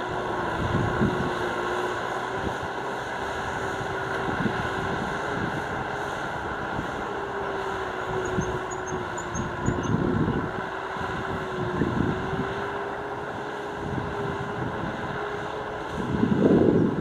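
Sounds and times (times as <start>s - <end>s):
tractor engine running under load: 0.0s - 17.0s.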